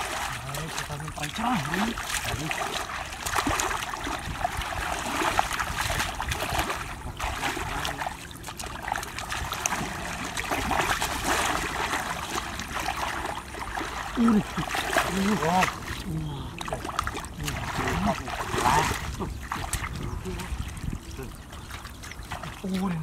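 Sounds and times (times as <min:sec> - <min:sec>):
shallow water sloshing and splashing: 0:00.0 - 0:23.0.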